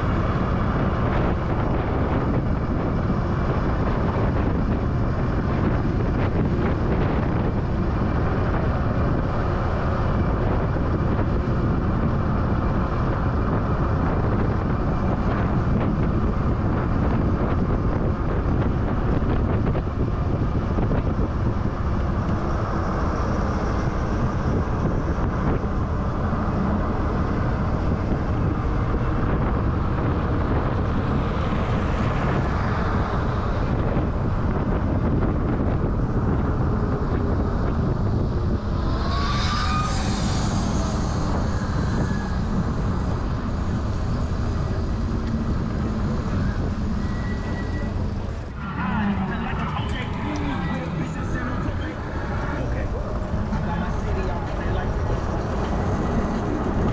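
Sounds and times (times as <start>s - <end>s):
wind rush on microphone: 0.0s - 56.9s.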